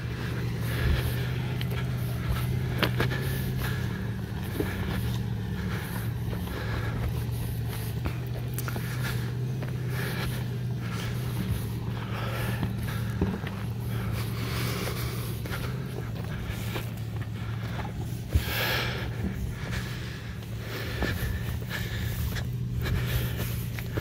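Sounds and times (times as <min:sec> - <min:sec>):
tyres on gravel: 0:00.0 - 0:24.0
vehicle engine at low revs: 0:00.0 - 0:24.0.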